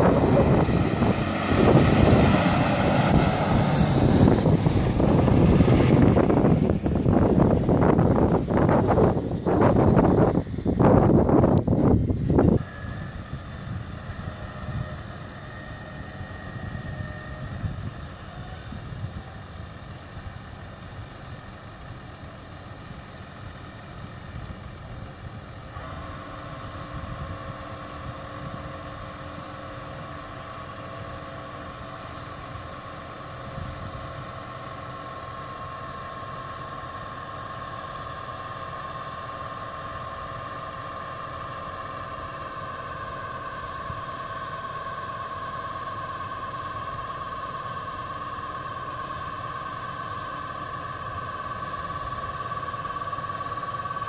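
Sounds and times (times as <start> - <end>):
steady whine: 0.0 - 54.0
tractor diesel engine running: 0.0 - 54.0.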